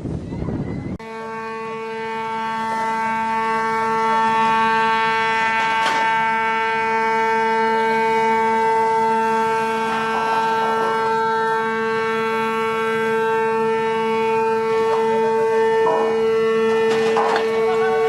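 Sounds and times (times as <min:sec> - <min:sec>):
ship's horn blast: 0:00.7 - 0:18.0.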